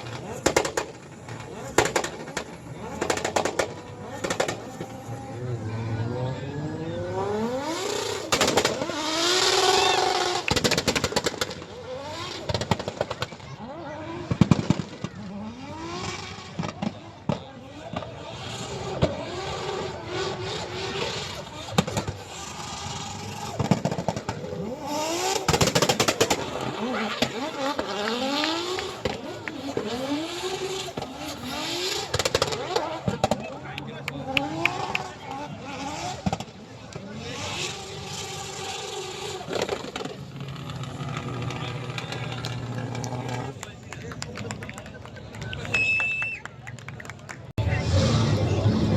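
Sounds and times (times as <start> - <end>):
engine revving hard: 0.0 - 17.0, 18.0 - 43.7, 47.6 - 48.9
exhaust bangs: 0.0 - 45.7, 47.1 - 48.9.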